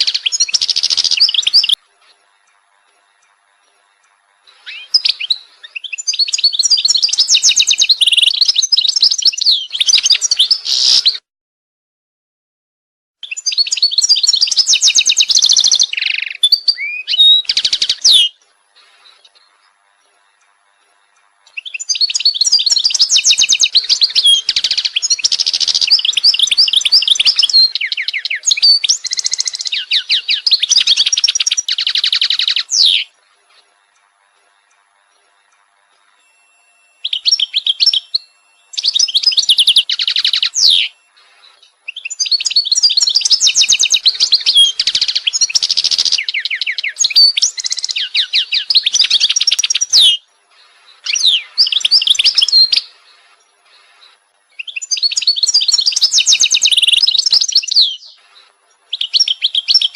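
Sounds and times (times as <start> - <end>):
songbird trilling: 0.0 - 1.8, 4.5 - 11.2, 13.2 - 19.3, 21.5 - 33.2, 36.2 - 53.3, 54.6 - 58.3, 58.9 - 59.9.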